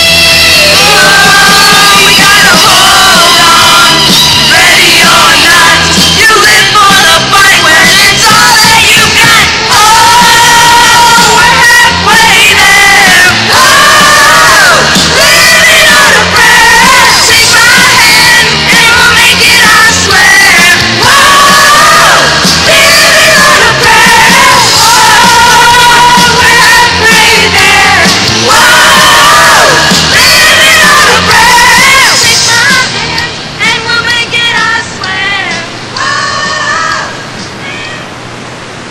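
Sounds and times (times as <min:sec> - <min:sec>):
rock band playing: 0:00.0 - 0:32.2.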